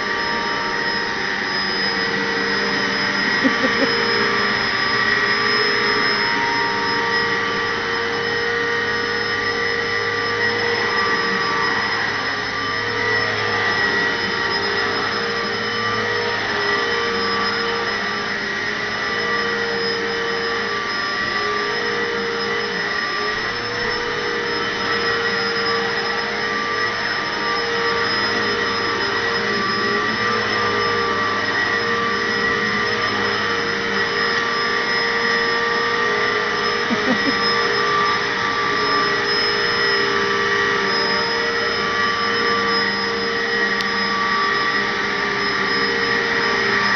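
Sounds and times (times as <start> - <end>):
vacuum cleaner motor whine: 0.0 - 46.9.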